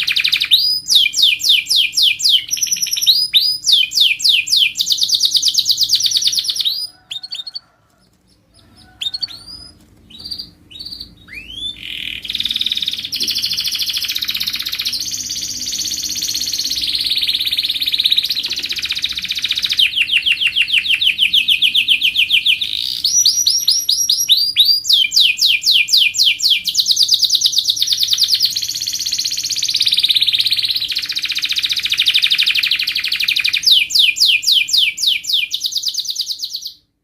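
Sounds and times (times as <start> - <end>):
canary singing in trills: 0.0 - 36.9.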